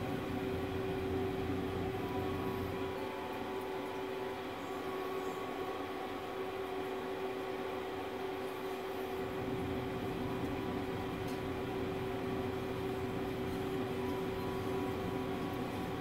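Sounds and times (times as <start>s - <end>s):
grill fan humming: 0.0s - 16.0s.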